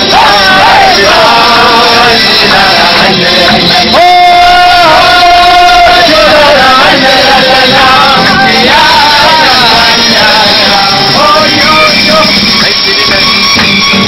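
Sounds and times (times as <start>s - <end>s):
man singing into microphone: 0.0s - 13.4s.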